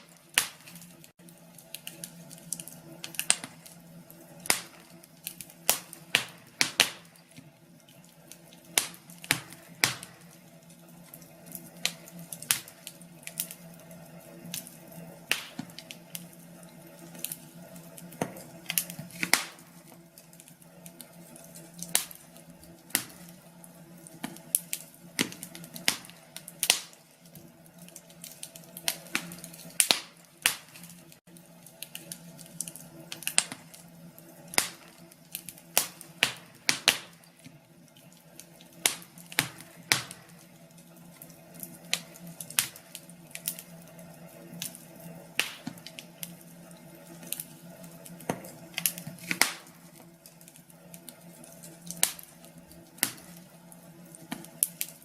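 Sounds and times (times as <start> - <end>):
steady low hum: 0.0 - 55.0
wood fire crackling and popping: 0.0 - 55.0.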